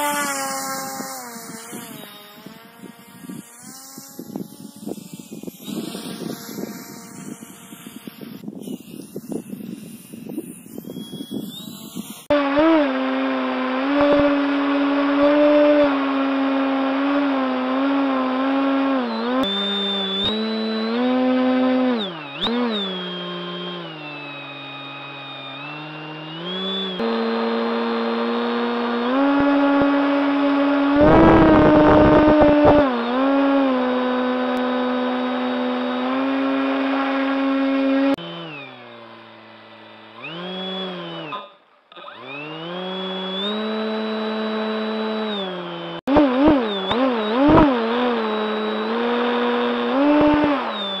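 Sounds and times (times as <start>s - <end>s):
propeller motor whine: 0.0s - 41.4s, 42.0s - 51.0s.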